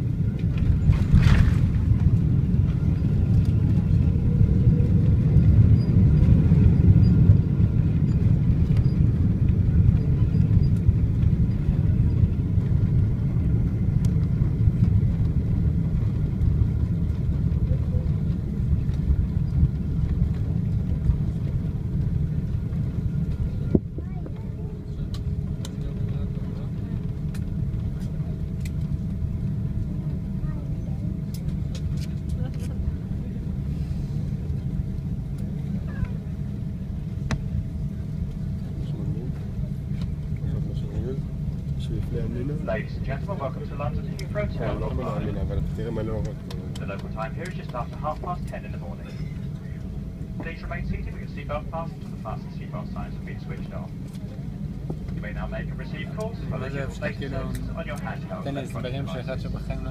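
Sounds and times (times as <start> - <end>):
airplane cabin rumble: 0.0 - 59.9
faint engine whine: 0.0 - 59.9.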